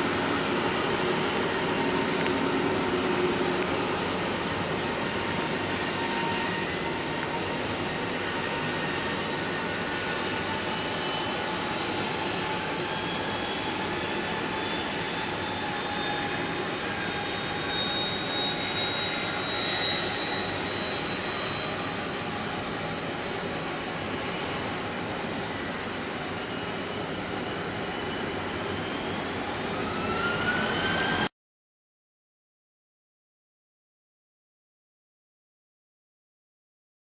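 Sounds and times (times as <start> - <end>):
jet engine rush: 0.0 - 31.3
whining turbine tones: 0.0 - 31.3.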